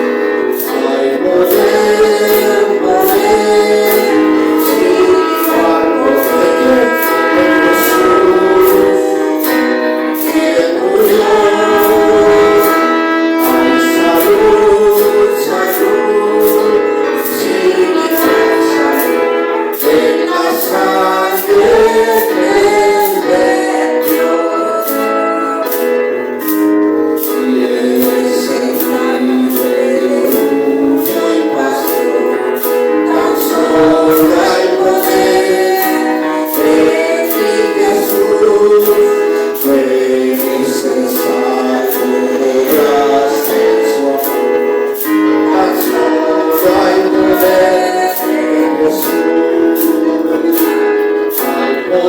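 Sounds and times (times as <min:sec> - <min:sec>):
steady percussion beat: 0:00.0 - 0:51.9
congregation singing a hymn: 0:00.0 - 0:52.0
instrumental accompaniment: 0:00.0 - 0:52.0.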